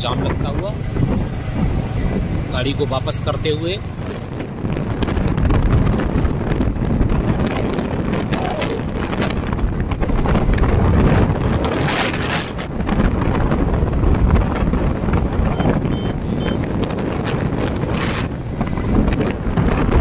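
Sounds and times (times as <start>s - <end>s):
motorcycle running noise: 0.0s - 20.0s
wind buffeting microphone: 0.0s - 20.0s.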